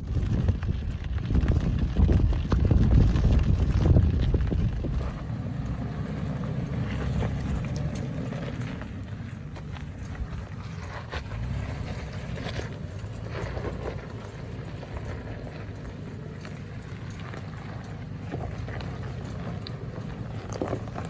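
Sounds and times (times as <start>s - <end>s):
vehicle engine low rumble: 0.0s - 21.0s.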